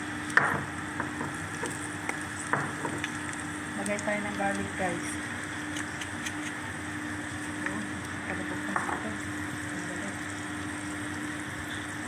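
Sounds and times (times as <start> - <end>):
low steady hum: 0.0 - 12.0
meat sizzling in a frying pan: 0.0 - 12.0.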